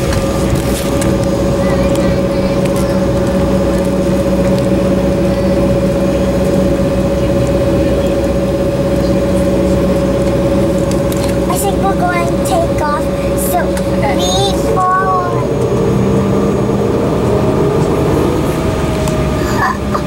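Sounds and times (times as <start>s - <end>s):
airplane cabin jet engine whine: 0.0s - 20.0s.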